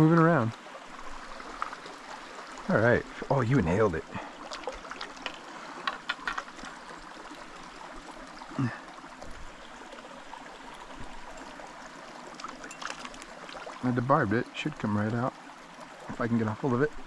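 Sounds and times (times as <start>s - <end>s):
creek running: 0.0s - 17.0s.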